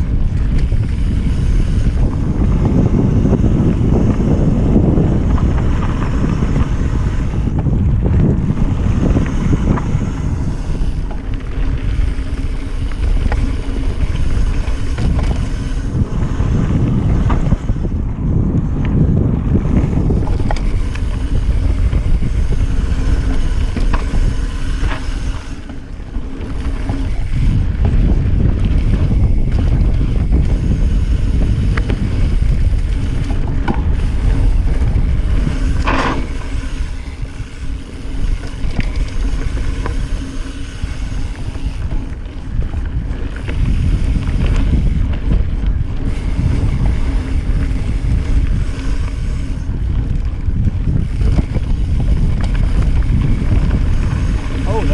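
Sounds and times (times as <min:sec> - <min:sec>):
bike rattling: 0:00.0 - 0:54.9
tyres rumbling on dirt trail: 0:00.0 - 0:54.9
wind buffeting microphone: 0:00.0 - 0:54.9.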